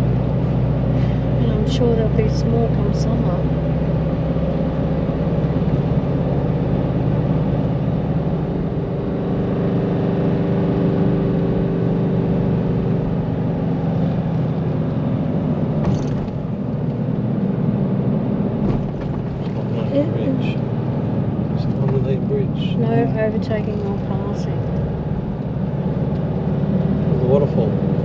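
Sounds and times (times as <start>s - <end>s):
car engine drone: 0.0s - 28.0s.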